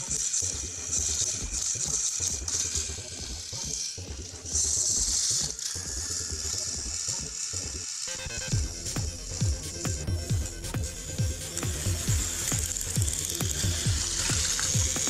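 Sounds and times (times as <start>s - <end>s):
gears grinding: 0.0s - 15.0s
toy locomotives whirring: 0.0s - 15.0s.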